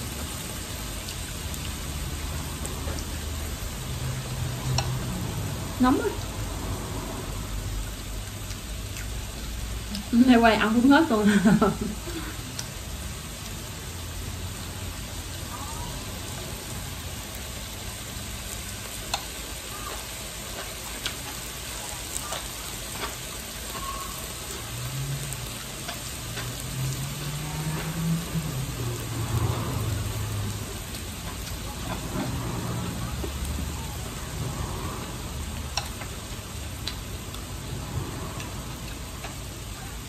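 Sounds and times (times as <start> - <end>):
meat sizzling on a grill plate: 0.0 - 40.0.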